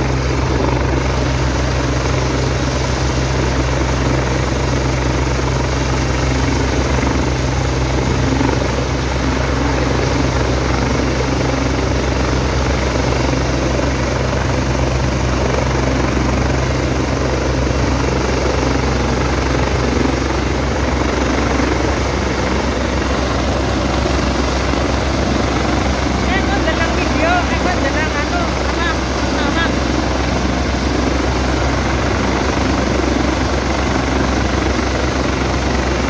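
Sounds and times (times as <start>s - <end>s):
helicopter idling: 0.0s - 36.0s.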